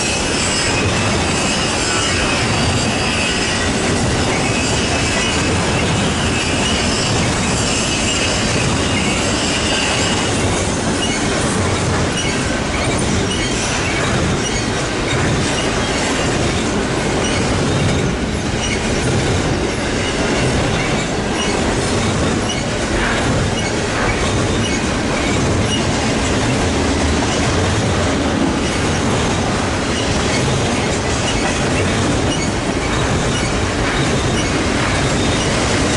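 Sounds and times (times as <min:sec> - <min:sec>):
high wheel squeal: 0:00.0 - 0:19.0, 0:19.7 - 0:26.0, 0:29.8 - 0:35.9
wheels clacking over rail joints: 0:00.0 - 0:35.9.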